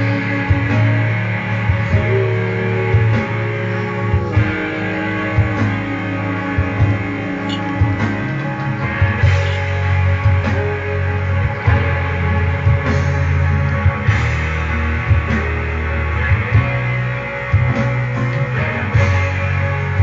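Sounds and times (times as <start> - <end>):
guitar-led instrumental music: 0.0 - 20.0.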